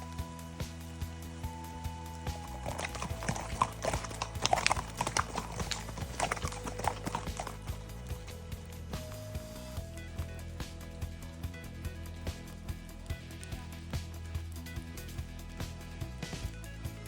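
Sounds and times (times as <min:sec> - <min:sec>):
background music: 0:00.0 - 0:17.0
horse hooves clip-clopping: 0:00.1 - 0:17.0.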